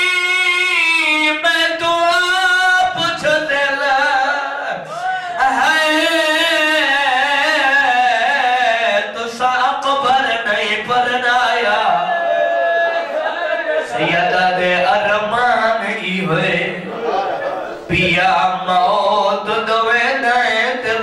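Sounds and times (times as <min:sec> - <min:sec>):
man singing mournful chant: 0:00.0 - 0:21.0.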